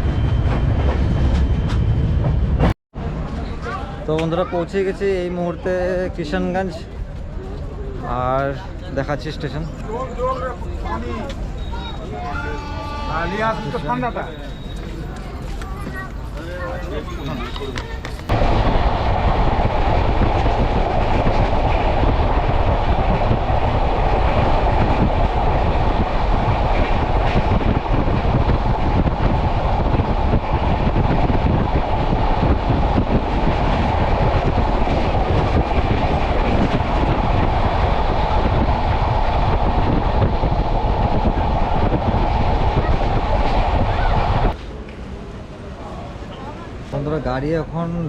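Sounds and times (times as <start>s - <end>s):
train wheels rumbling on track: 0.0s - 47.8s.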